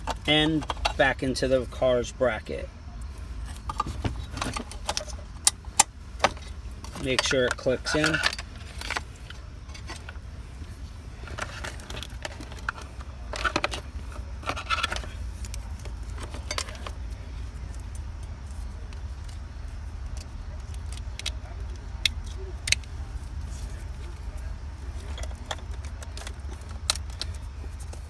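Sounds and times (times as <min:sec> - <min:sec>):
plastic connectors and wires rattling: 0:00.0 - 0:01.6, 0:03.0 - 0:28.0
steady low hum: 0:00.0 - 0:28.0.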